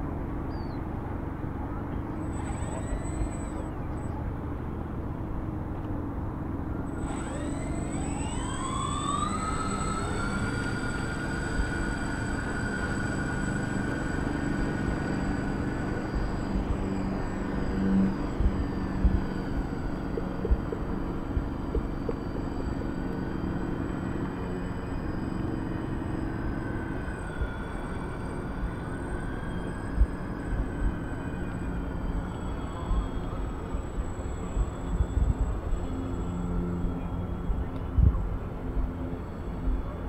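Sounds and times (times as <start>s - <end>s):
model aircraft motors whining: 0.1s - 40.0s.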